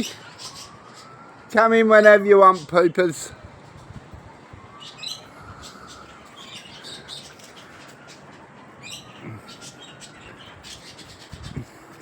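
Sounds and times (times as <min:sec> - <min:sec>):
faint rising and falling wail: 0:00.0 - 0:11.1
birds chirping: 0:00.0 - 0:12.0.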